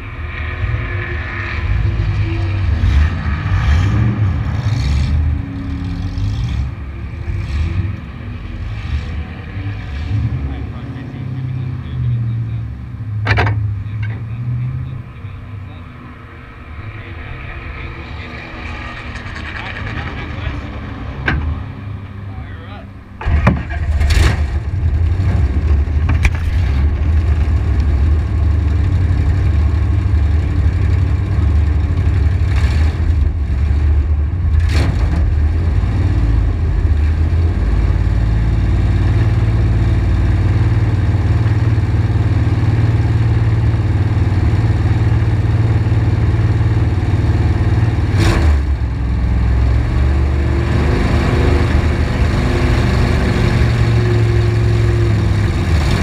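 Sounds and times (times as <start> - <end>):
racing engine idling: 0.0 - 56.0.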